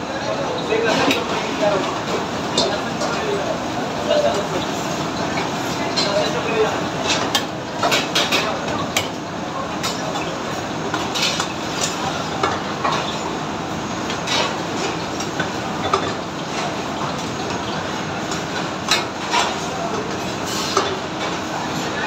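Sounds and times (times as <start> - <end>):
gas burners and extraction hood: 0.0 - 22.0.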